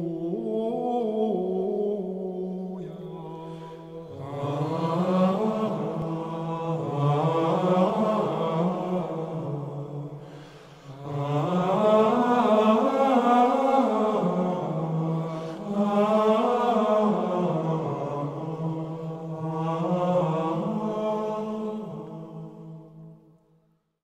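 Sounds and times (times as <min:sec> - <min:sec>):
slow vocal chant: 0:00.0 - 0:23.8.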